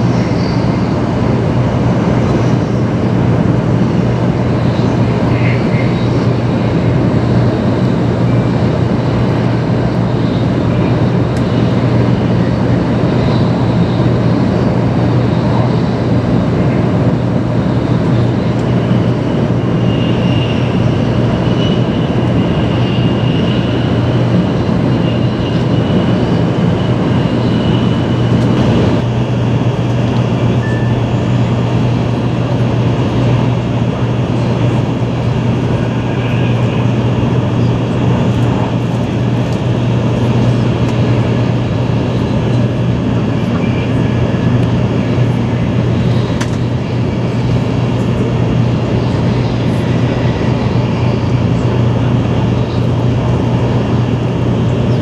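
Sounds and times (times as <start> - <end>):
faint high whine: 0.0 - 55.0
train running noise: 0.0 - 55.0.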